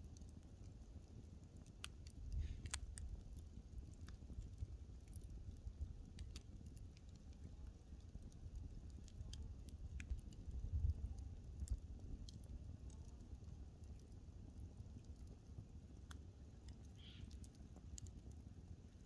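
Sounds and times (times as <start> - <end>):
low rumble of flames: 0.0 - 19.0
sharp snaps and ticks of fire: 0.0 - 19.0.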